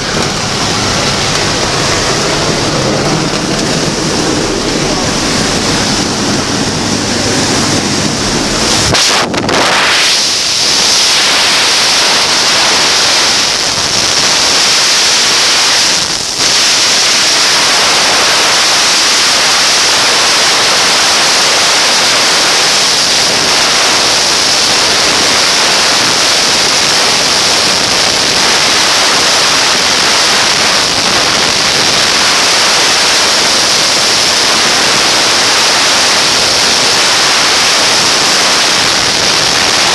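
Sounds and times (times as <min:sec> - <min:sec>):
airplane engine rumble: 0:00.0 - 0:39.9
wind roaring over microphone: 0:00.0 - 0:39.9.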